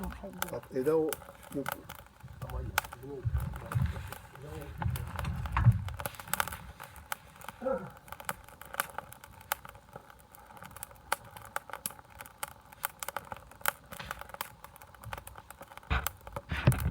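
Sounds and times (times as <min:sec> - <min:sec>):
campfire crackling and popping: 0:00.0 - 0:16.9.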